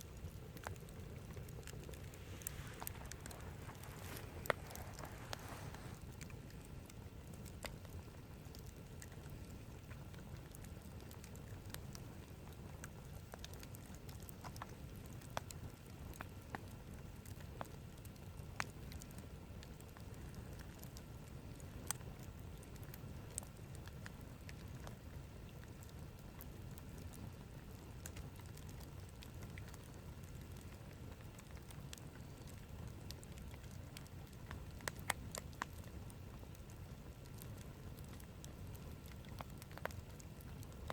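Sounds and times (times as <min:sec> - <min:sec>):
wood campfire crackling: 0:00.0 - 0:40.9.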